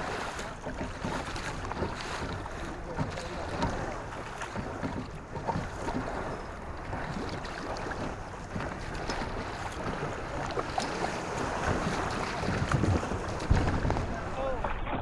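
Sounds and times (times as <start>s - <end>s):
water splashing against a hull: 0.0s - 15.0s
wind buffeting the microphone: 0.0s - 15.0s.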